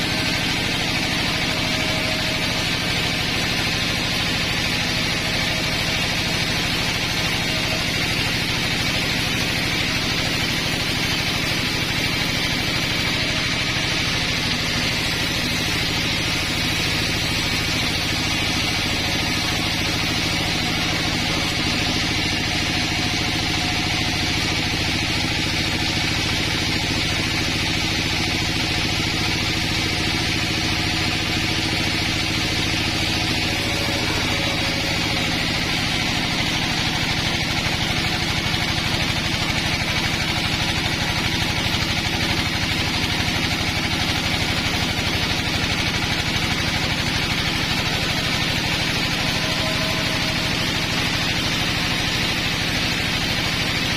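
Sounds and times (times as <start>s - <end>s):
sawmill engine hum: 0.0s - 53.9s.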